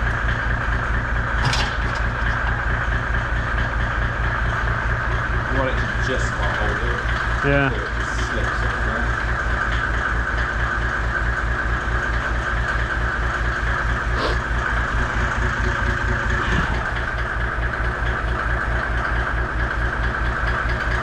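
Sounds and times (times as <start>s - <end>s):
constant whir: 0.0s - 21.0s
engine idling: 0.0s - 21.0s.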